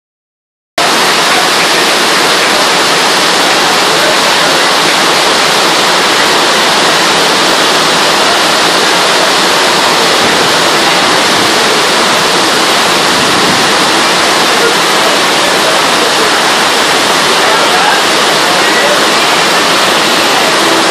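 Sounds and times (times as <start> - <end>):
heavy rain on metal roof: 0.8 - 20.9.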